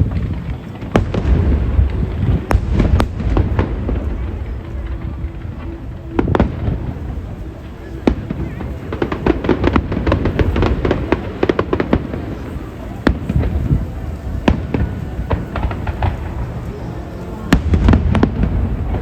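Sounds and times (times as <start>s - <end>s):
fireworks bangs: 0.0s - 19.0s
fireworks crackling pops: 0.0s - 19.0s.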